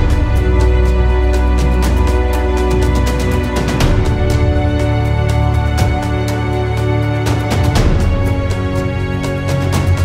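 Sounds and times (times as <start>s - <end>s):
low bass: 0.0s - 10.0s.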